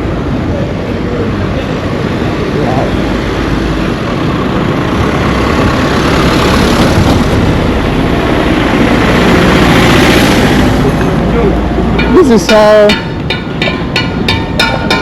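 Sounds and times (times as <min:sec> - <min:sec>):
wind rumble on microphone: 0:00.0 - 0:12.0
vehicle engine and tyres approaching: 0:00.0 - 0:15.0.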